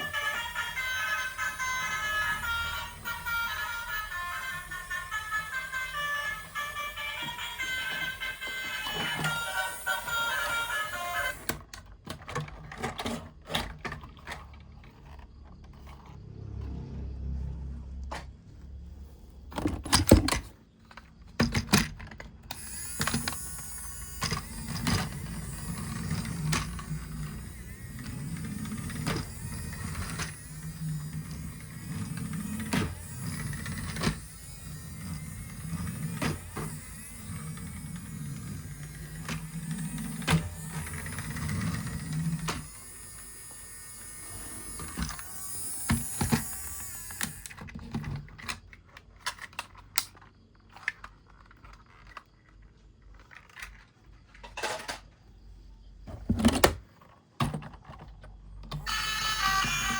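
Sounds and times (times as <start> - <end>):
toy electric motor humming: 0.0 - 16.4, 20.8 - 54.5, 58.7 - 59.9.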